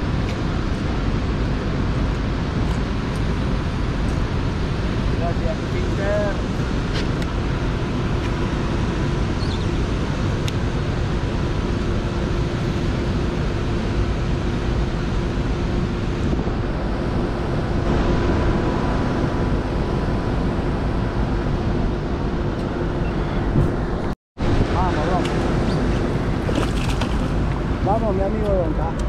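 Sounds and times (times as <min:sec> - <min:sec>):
boat engine running: 0:00.0 - 0:29.0
wind rushing over microphone: 0:00.0 - 0:29.0.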